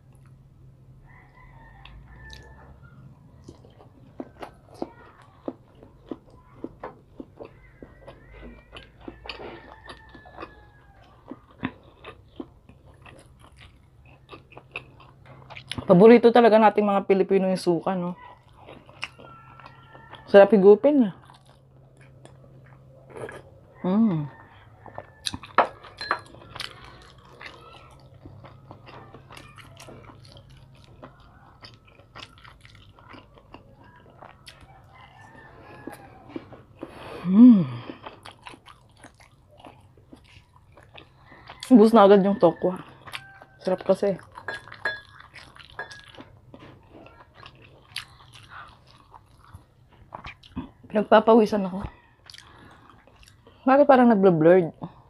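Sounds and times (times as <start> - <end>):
close chewing and biting: 1.7 - 16.4, 17.8 - 53.7.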